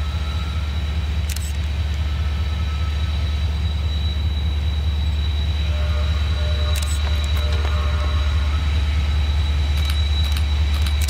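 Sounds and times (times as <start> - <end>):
faint high whine: 0.0 - 11.0
locomotive engine rumble: 0.0 - 11.0.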